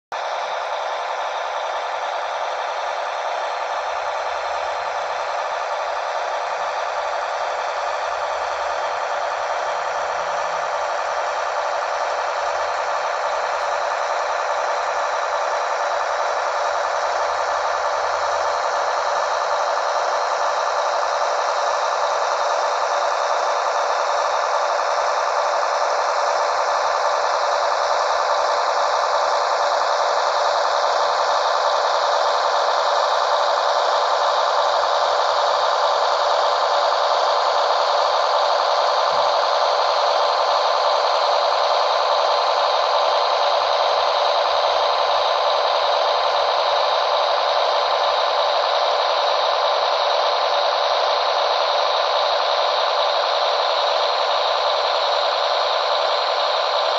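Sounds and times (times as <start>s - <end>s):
model train diesel engine sound: 0.0s - 56.9s.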